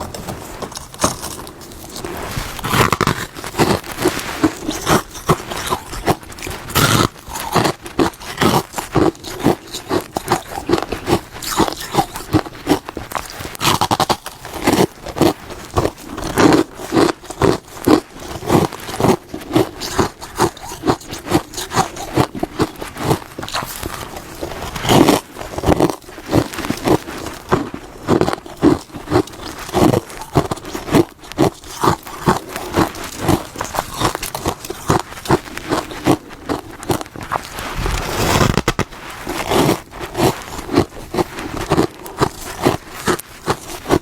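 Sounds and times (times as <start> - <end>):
frost being chewed: 0.0 - 44.0.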